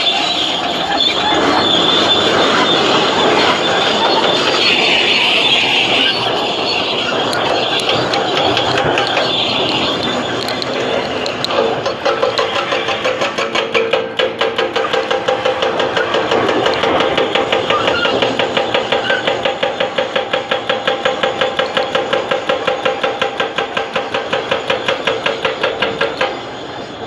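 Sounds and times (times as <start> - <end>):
bulldozer track clanking: 0.0 - 27.0
bulldozer whine: 0.0 - 27.0.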